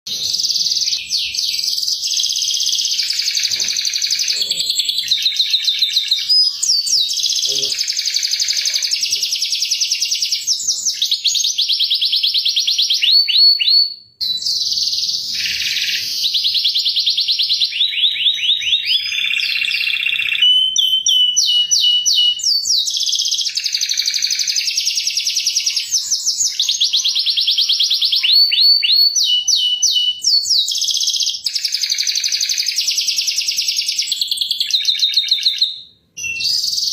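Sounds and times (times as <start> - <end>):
canary singing: 0.1 - 36.9.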